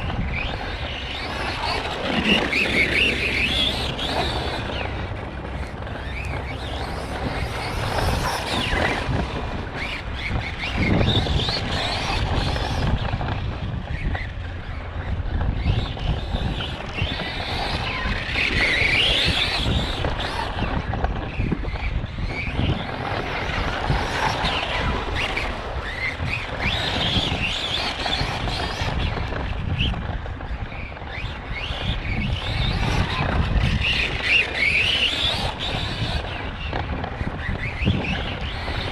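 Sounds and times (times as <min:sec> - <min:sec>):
electric motor whining: 0:00.0 - 0:38.9
tyres rumbling on ground: 0:00.0 - 0:38.9.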